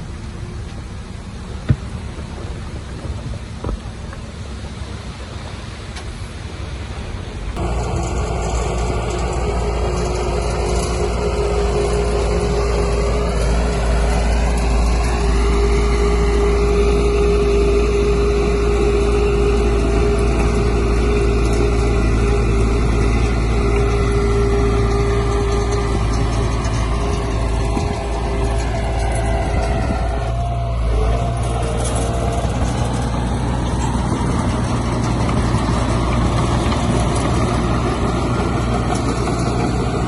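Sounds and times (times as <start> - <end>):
heavy diesel engine running: 0.0 - 40.0
rising machine whine: 7.6 - 40.0.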